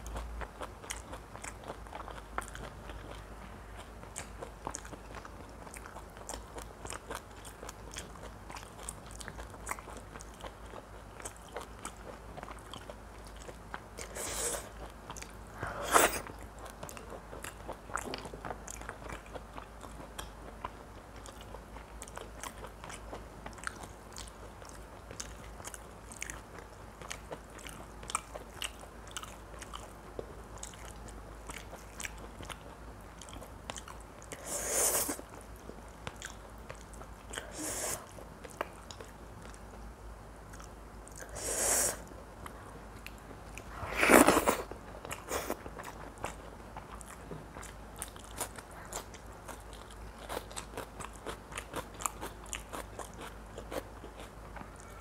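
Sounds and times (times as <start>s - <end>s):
person chewing wet mouth sounds: 0.0s - 55.0s.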